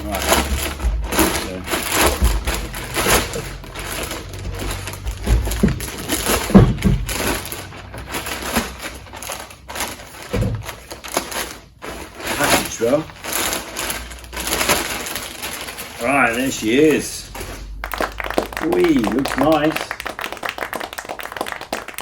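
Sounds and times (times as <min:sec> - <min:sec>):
packaging rustling and scraping: 0:00.0 - 0:19.8.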